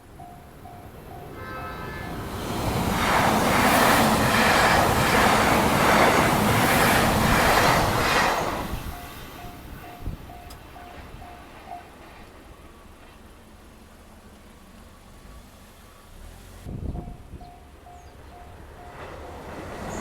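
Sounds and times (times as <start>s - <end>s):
wheels clacking over rail joints: 0.0s - 16.2s
train rumble: 0.0s - 20.0s.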